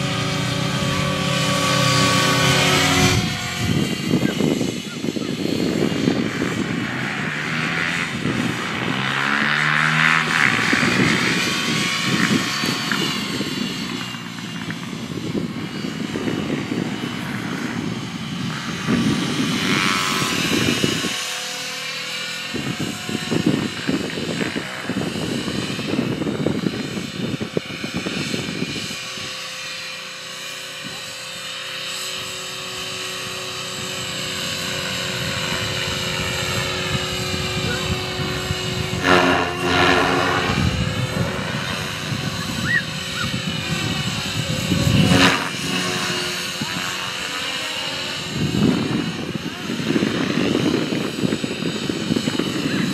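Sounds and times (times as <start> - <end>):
rc helicopter rotor whine: 0.0 - 52.9.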